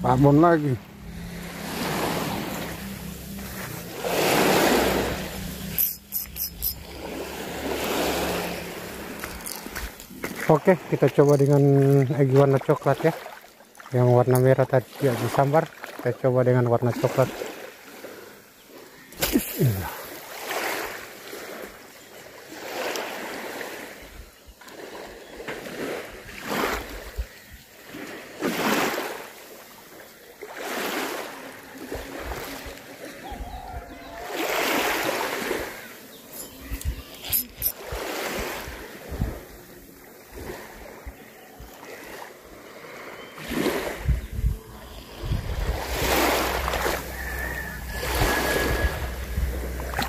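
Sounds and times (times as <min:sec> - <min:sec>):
small waves breaking on beach: 0:00.0 - 0:05.8, 0:06.8 - 0:50.0.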